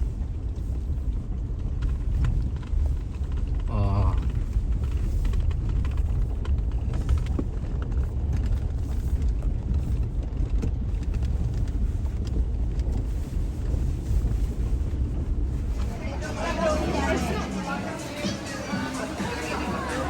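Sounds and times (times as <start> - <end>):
car rumbling on the move: 0.0 - 20.0.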